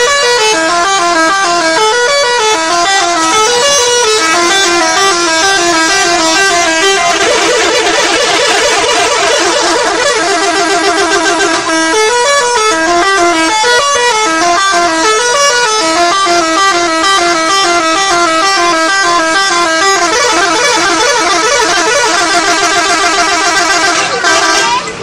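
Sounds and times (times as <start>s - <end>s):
musical bus horn tune: 0.0s - 25.0s.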